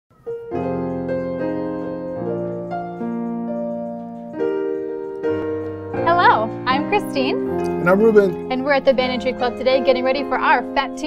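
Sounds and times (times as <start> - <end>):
grand piano chords: 0.1 - 11.0.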